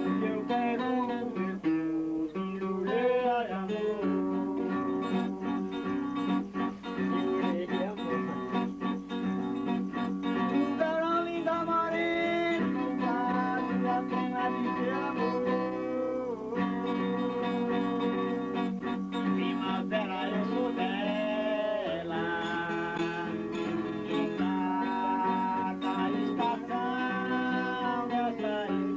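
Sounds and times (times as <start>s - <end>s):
man singing: 0.0s - 9.0s, 10.2s - 28.9s
strummed acoustic guitar: 0.0s - 28.9s.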